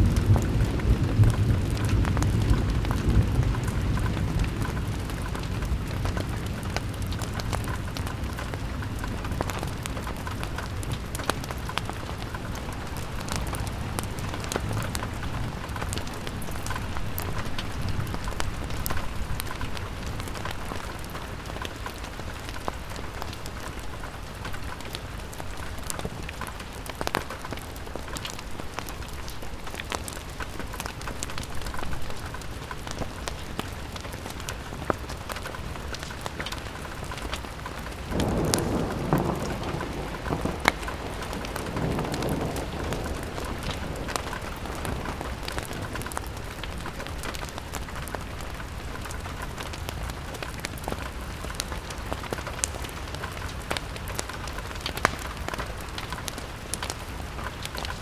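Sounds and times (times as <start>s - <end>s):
rain pattering on a window: 0.0s - 58.0s.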